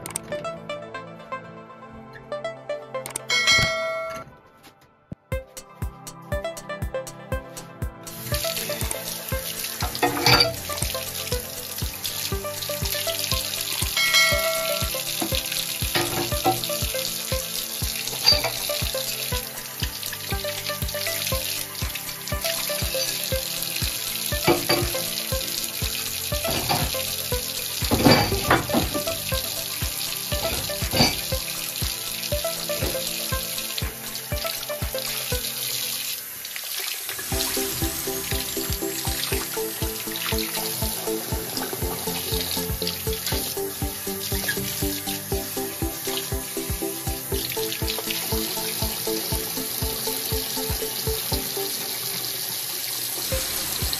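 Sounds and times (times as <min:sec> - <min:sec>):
background music: 0:00.0 - 0:53.9
water running from faucet: 0:08.1 - 0:53.9.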